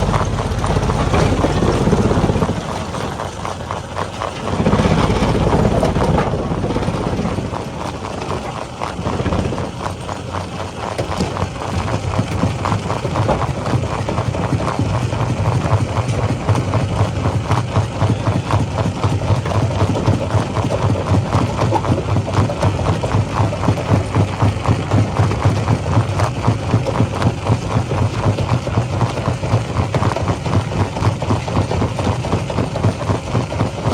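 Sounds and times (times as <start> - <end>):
fast machine pounding: 0.0 - 33.9
loud machinery rumbling: 0.0 - 33.9
rock crushing machine engine drone: 0.0 - 33.9.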